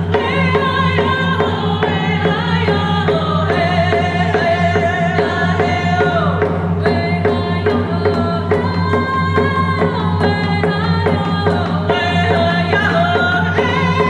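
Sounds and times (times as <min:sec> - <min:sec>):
frame drums beating: 0:00.0 - 0:14.0
women singing together: 0:00.0 - 0:14.0.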